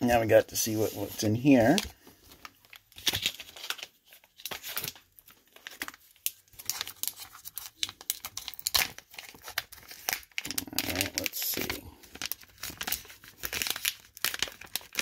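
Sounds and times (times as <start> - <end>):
foil pouch crinkling: 1.6 - 15.0.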